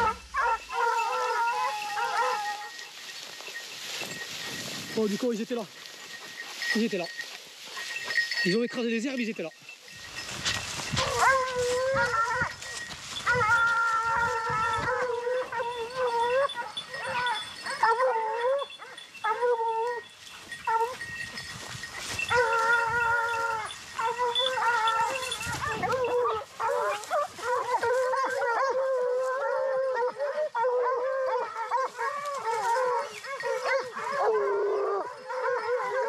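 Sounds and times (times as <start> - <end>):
hounds baying: 0.0 - 36.0.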